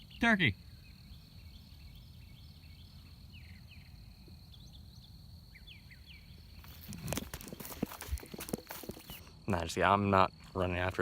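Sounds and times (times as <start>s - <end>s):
small birds chirping: 0.0s - 9.7s
high insect trill: 0.0s - 11.0s.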